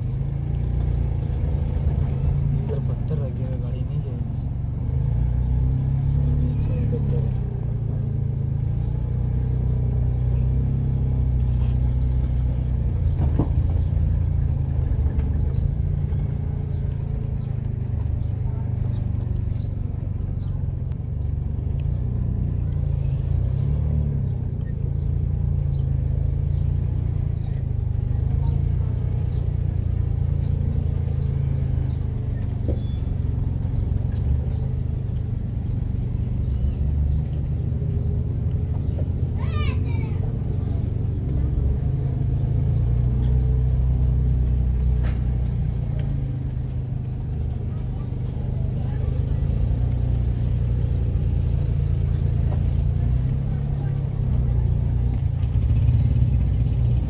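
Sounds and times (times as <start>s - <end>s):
street ambience rumble: 0.0s - 57.0s.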